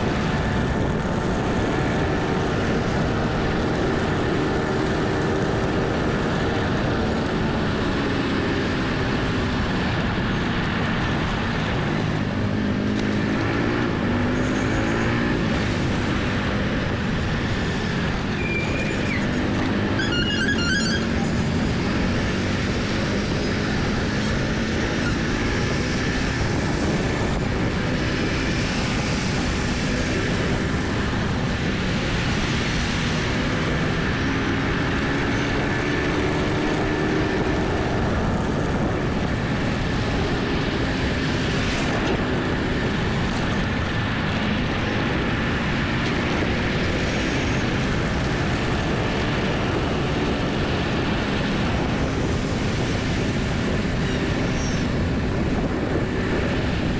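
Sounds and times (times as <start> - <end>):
wind rush on microphone: 0.0 - 56.9.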